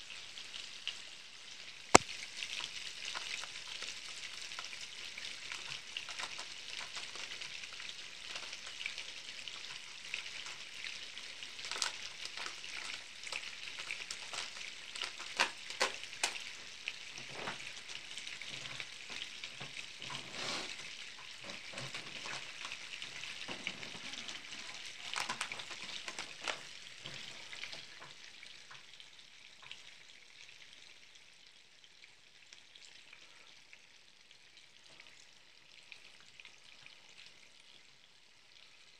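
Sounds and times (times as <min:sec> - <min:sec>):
butter sizzling in a frying pan: 0:00.0 - 0:38.9.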